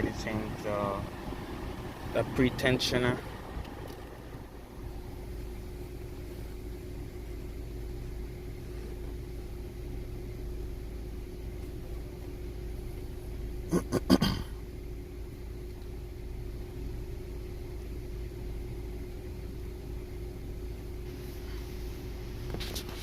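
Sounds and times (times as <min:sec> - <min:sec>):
car running hum: 0:00.0 - 0:23.0.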